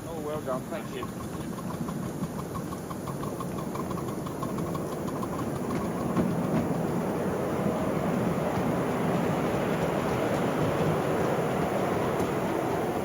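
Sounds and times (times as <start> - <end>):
miniature train rumbling: 0.0 - 13.0
train wheel clicks: 0.0 - 13.0.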